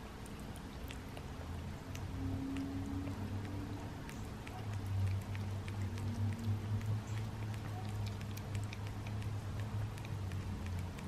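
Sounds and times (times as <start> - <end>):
cats licking wet clicks: 0.0 - 11.0
steady low hum: 0.0 - 11.0.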